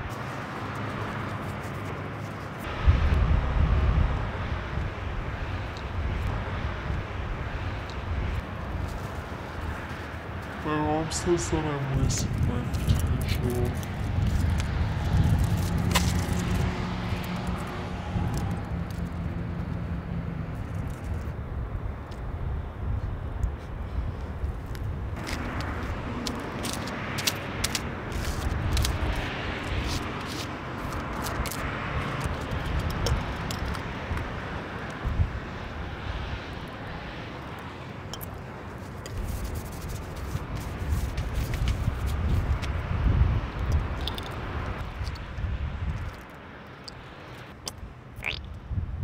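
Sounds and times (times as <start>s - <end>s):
low engine hum: 0.0s - 49.0s
low outdoor rumble: 0.0s - 49.0s.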